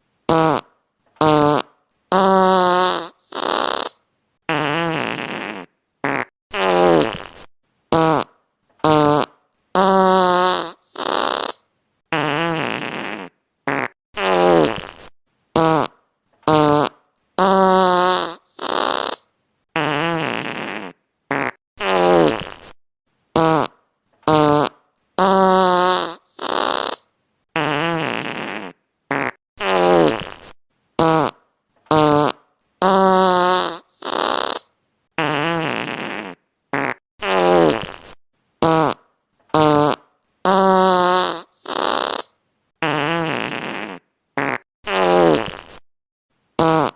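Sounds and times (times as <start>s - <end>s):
fart sound effects: 0.3s - 22.8s, 23.4s - 45.8s, 46.6s - 46.9s.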